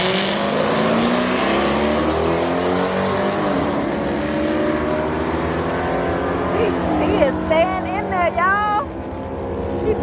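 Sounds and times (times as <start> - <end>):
drag racing car engines: 0.0 - 10.0.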